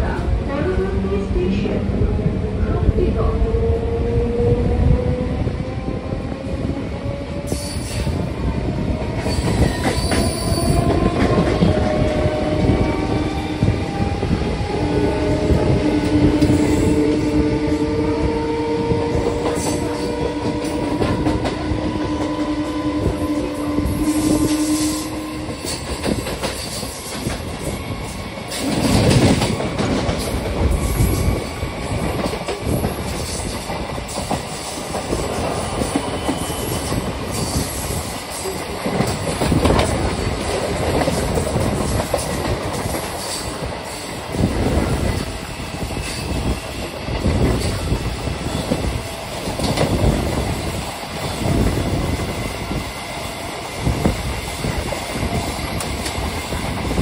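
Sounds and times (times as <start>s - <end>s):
train rolling rumble: 0.0s - 57.0s.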